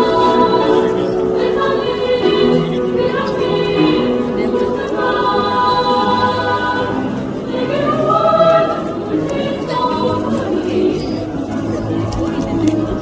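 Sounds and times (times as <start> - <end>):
girls' choir singing: 0.0 - 13.0.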